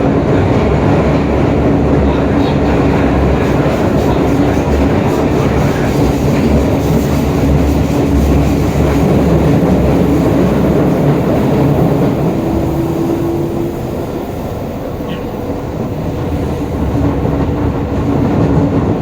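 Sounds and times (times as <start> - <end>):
train wheel and rail rumble: 0.0 - 19.0.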